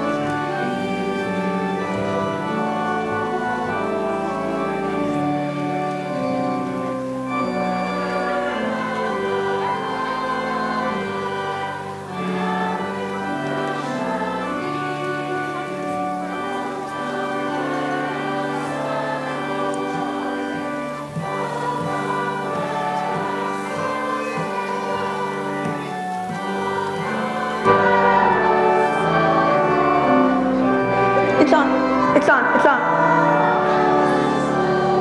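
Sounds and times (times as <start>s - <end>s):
children's choir singing: 0.0s - 35.0s
instrumental accompaniment: 0.0s - 35.0s.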